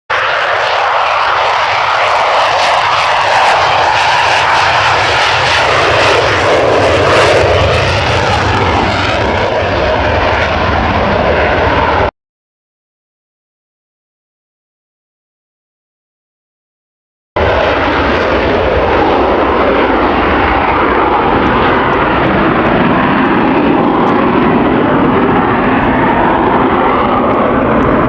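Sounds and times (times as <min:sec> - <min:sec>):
loud jet engine noise: 0:00.1 - 0:12.1, 0:17.4 - 0:28.0.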